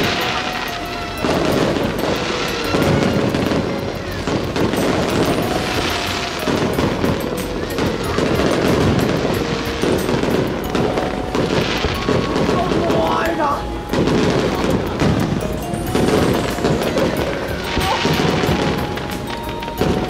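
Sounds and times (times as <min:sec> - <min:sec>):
fireworks cracking and booming: 0:00.0 - 0:20.0
music: 0:00.0 - 0:20.0.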